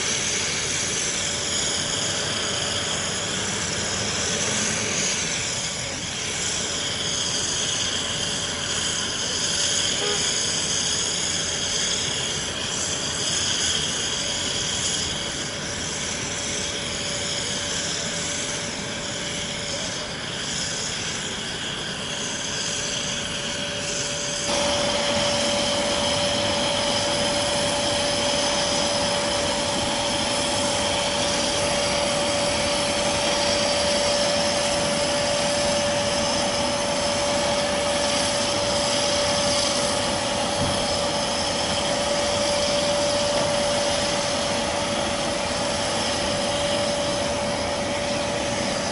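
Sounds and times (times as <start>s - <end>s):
aircraft engines rushing and whining: 0.0s - 48.9s.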